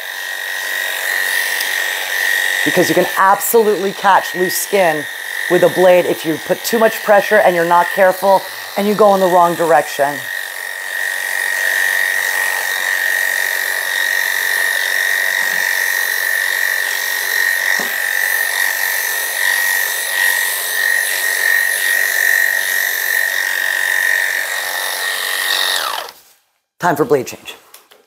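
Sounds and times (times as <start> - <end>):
electric clippers humming: 0.0 - 26.3.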